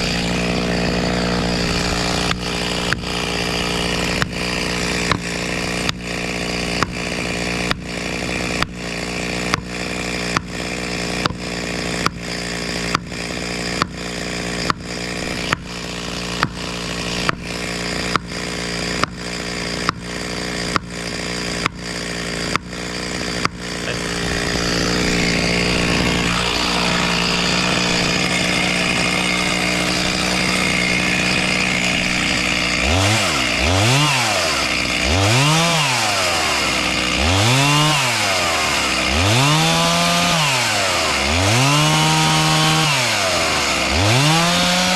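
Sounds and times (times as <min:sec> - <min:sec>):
chainsaw running: 0:00.0 - 0:44.9.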